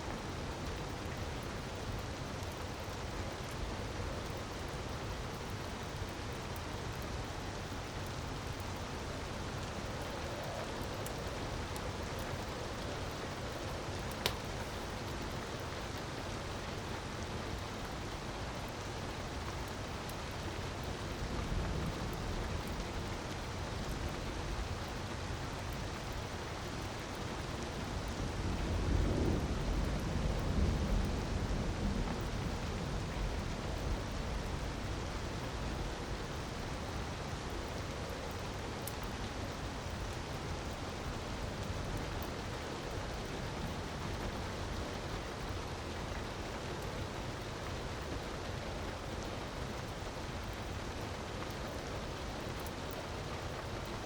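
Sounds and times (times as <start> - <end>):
wood fire crackling: 0.1 - 31.2, 32.5 - 54.0.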